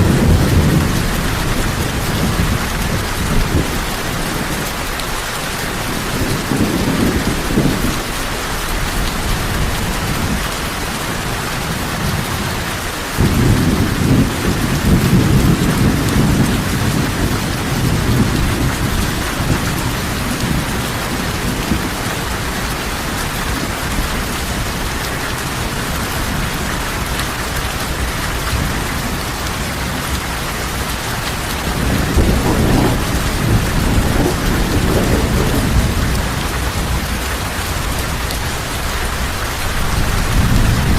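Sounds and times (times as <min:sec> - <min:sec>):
heavy rain pouring: 0:00.0 - 0:40.9
thunder rumbling: 0:00.0 - 0:40.9.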